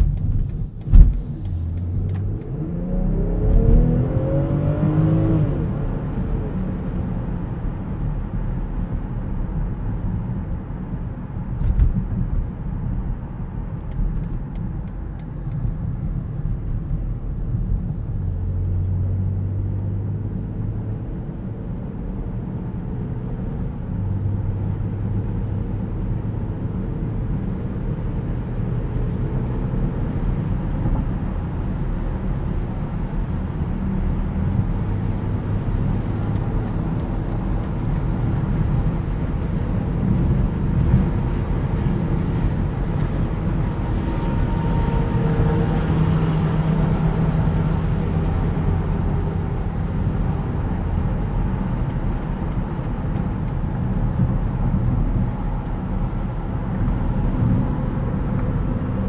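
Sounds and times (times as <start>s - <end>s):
low engine hum: 0.0s - 59.0s
road and tyre noise: 0.0s - 59.0s.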